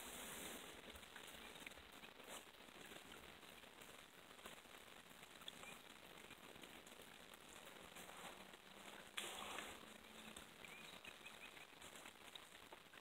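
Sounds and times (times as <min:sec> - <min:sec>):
light crackling patter: 0:00.0 - 0:13.0.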